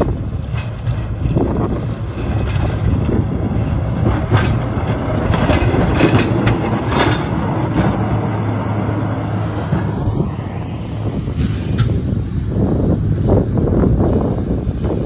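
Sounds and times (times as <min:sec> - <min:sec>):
diesel engine running: 0:00.0 - 0:15.0
plow blade scraping snowy road: 0:00.0 - 0:15.0.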